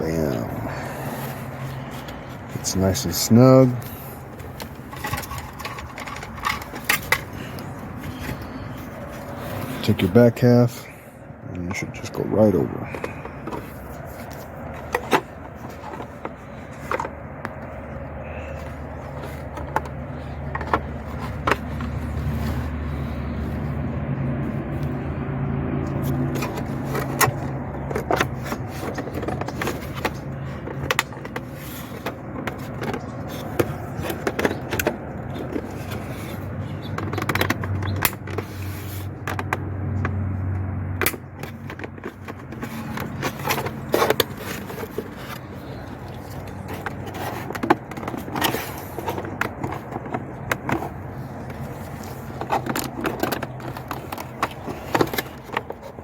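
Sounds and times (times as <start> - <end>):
plastic parts clicking and scraping: 0.0 - 23.8, 25.8 - 56.0.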